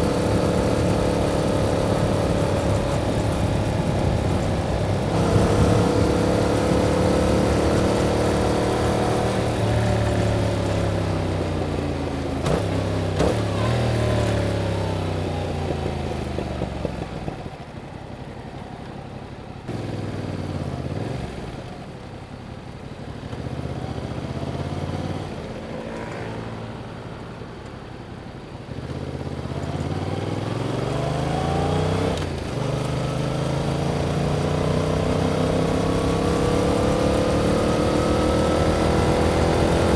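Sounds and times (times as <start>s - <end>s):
motorcycle engine revving: 0.0s - 17.7s, 19.7s - 22.0s, 23.0s - 27.6s, 28.6s - 39.9s.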